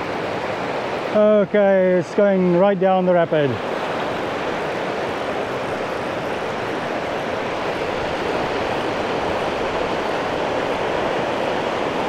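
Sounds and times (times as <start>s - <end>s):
river rapids rushing: 0.0s - 12.0s.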